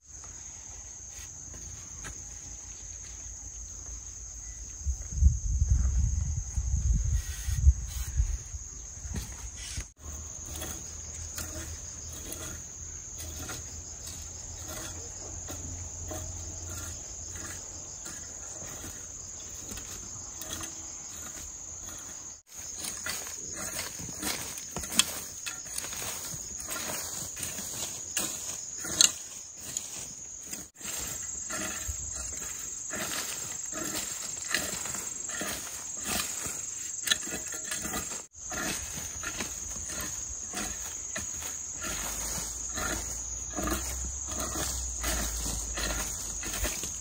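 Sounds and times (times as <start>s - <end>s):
high insect drone: 0.0s - 47.0s
metal rake scraping soil: 7.0s - 47.0s.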